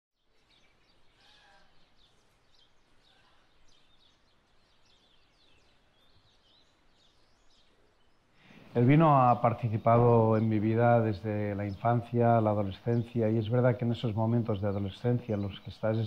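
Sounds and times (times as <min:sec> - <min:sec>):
lower bird calls: 0:00.2 - 0:16.0
small birds chirping: 0:00.2 - 0:16.0
soft background hiss: 0:00.9 - 0:16.0.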